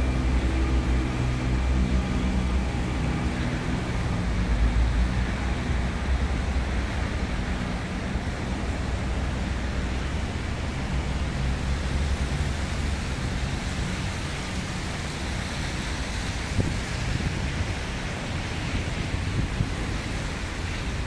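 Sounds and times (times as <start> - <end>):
low traffic rumble: 0.0 - 21.0
vehicle engine drone: 0.0 - 21.0.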